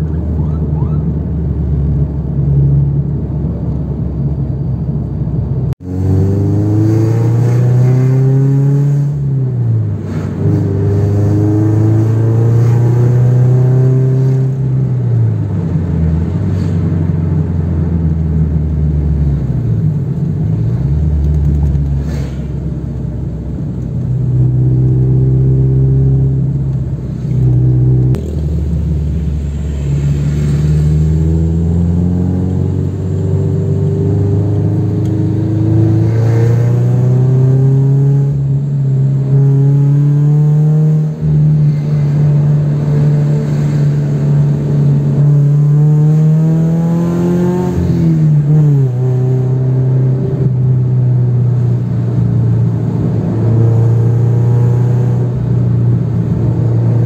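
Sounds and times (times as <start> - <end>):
car engine accelerating: 5.6 - 57.0.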